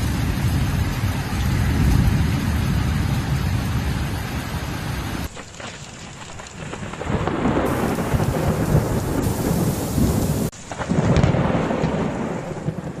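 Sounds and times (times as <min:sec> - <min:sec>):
heavy rain: 0:00.0 - 0:13.0
thunder rumbling: 0:00.0 - 0:13.0.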